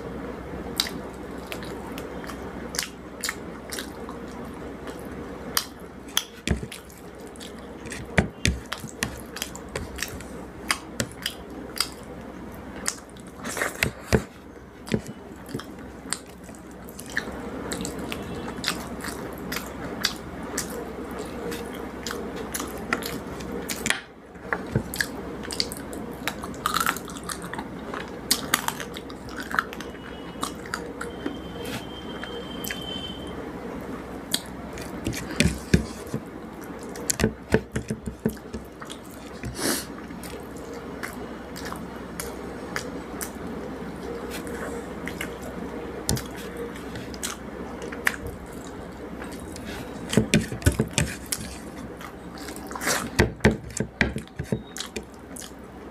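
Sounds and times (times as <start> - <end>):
person chewing food: 0.7 - 31.2, 34.3 - 55.6.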